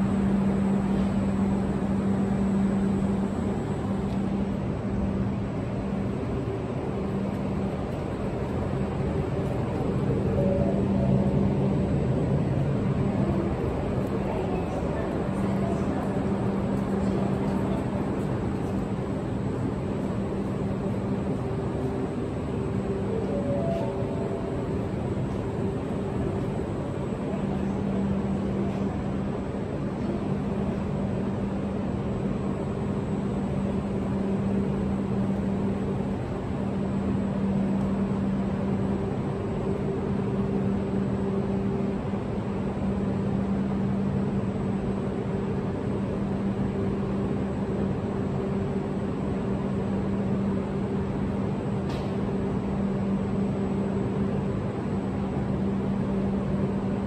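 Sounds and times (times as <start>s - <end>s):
train equipment humming: 0.0s - 57.0s.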